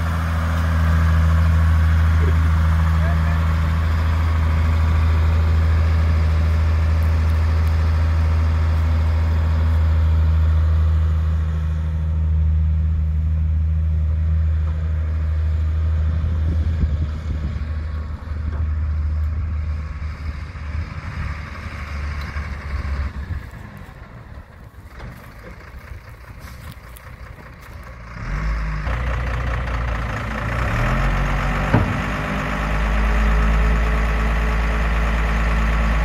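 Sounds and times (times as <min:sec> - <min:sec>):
truck engine driving off: 0:00.0 - 0:36.0.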